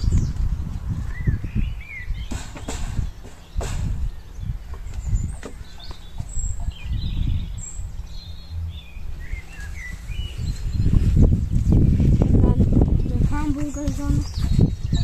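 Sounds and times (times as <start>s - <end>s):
birds chirping and singing: 0.0s - 15.0s
low rumble on microphone: 0.0s - 15.0s.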